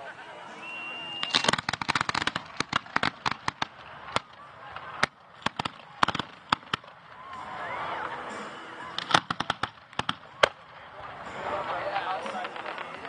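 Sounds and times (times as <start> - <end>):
fireworks cracking and popping: 1.2 - 13.0.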